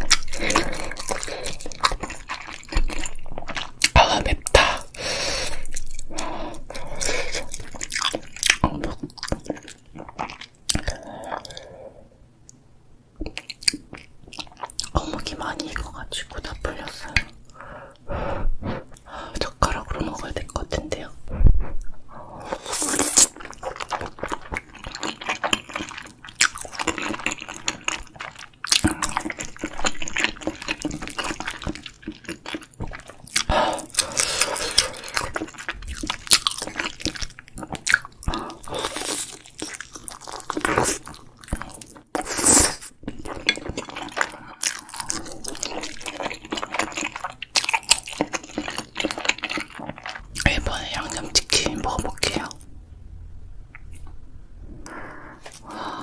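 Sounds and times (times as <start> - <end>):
wet chewing and mouth smacks: 0.0 - 4.9, 5.5 - 11.6, 13.2 - 17.6, 21.6 - 52.7.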